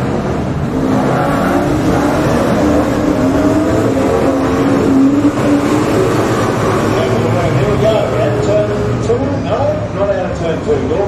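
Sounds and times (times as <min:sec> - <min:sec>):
race car engines revving past: 0:00.0 - 0:11.0.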